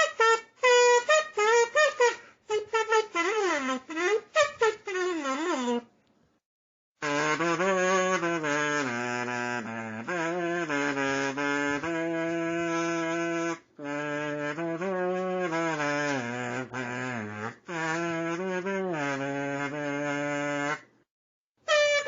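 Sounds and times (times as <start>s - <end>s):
buzzy kazoo melody: 0.0s - 6.0s, 7.0s - 21.0s, 21.6s - 22.0s.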